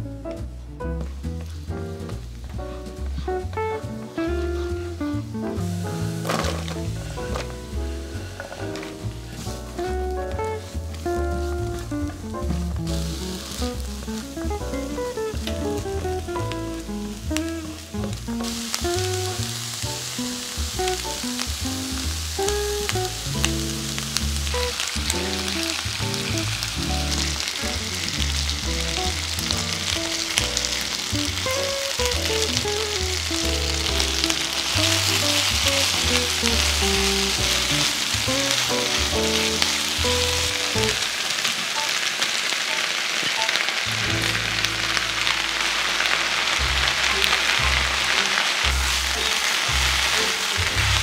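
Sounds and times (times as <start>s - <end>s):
light background music: 0.0s - 41.0s
food sizzling in a pan: 2.8s - 51.0s.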